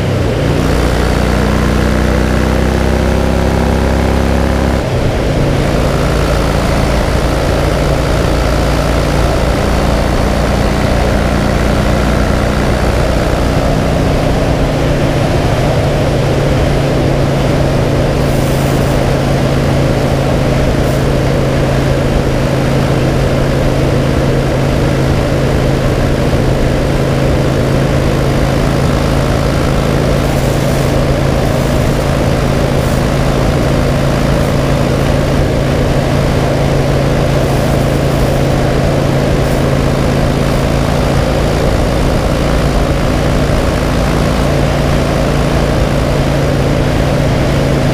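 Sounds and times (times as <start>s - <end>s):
motorcycle engine cruising: 0.0s - 47.9s
road noise: 0.0s - 47.9s.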